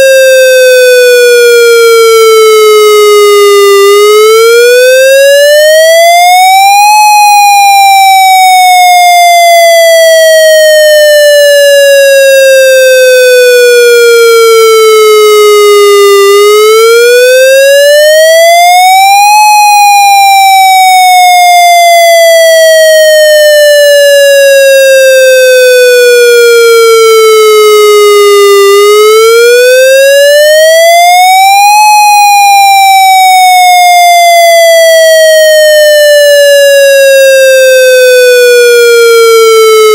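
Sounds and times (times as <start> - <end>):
siren wail: 0.0 - 39.9.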